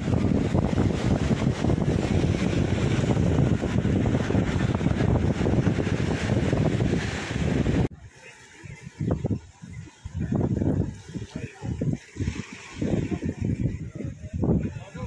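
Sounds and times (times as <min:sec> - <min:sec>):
sea surf washing against rocks: 0:00.0 - 0:15.0
wind buffeting microphone: 0:00.0 - 0:15.0.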